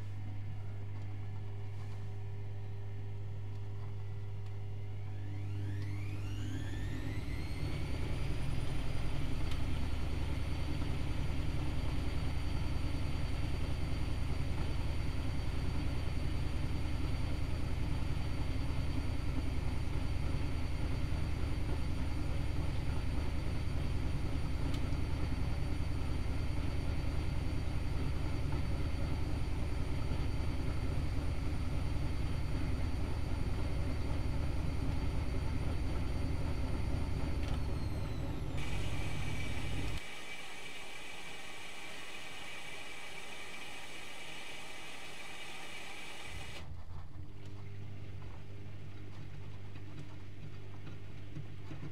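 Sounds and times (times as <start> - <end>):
washing machine spinning: 0.0 - 51.9.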